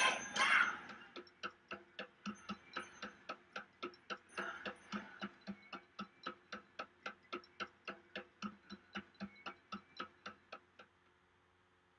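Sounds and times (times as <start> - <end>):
clock-like ticking: 0.0 - 11.4
faint held musical tone: 0.0 - 11.9.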